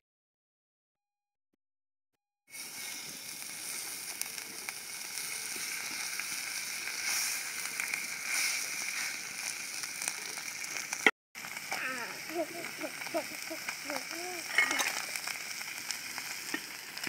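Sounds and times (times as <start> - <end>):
fish sizzling on an iron pan: 2.5 - 17.0.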